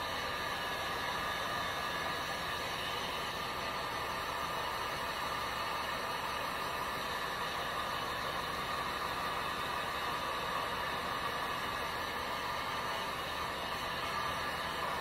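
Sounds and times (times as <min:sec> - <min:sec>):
heat gun blowing hot air: 0:00.0 - 0:15.0.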